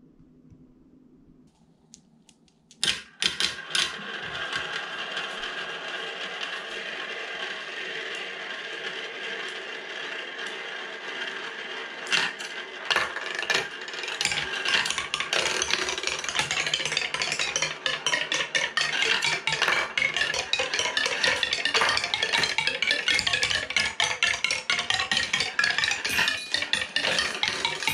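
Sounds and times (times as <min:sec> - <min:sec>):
marble knocking through plastic track: 0:02.7 - 0:27.9
marbles clattering down wooden toy: 0:02.8 - 0:27.9
marble rolling in plastic funnel: 0:03.3 - 0:27.9.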